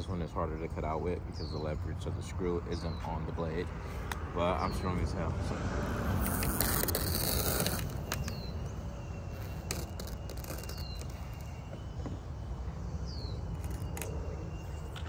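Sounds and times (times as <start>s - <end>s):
bird chirping: 0.0s - 5.3s, 6.2s - 15.0s.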